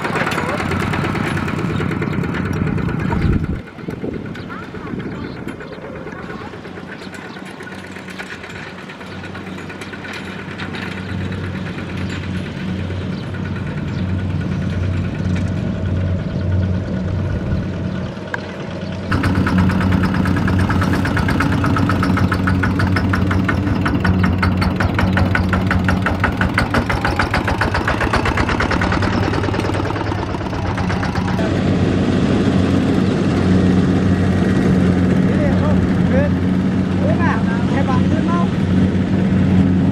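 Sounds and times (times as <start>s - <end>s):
diesel walking tractor engine: 0.0s - 39.9s.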